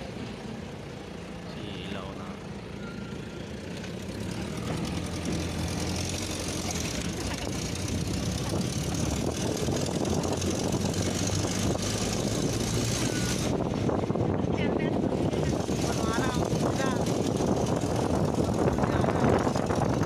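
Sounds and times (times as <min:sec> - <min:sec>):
truck engine running: 0:00.0 - 0:20.0
wind and road noise: 0:00.0 - 0:20.0.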